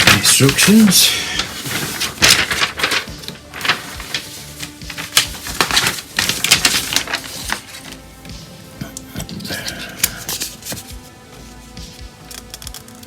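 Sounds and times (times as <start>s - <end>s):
hands handling plastic parts: 0.0s - 11.1s.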